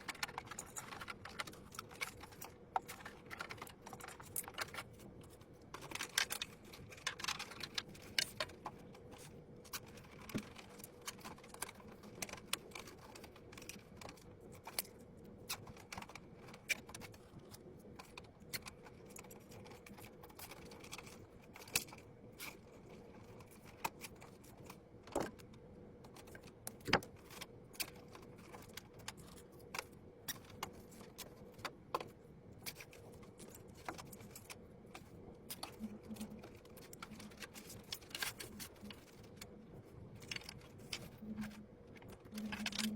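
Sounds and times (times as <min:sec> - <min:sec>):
computer parts clicking and rattling: 0:00.0 - 0:42.9
faint steady hum: 0:00.0 - 0:42.9.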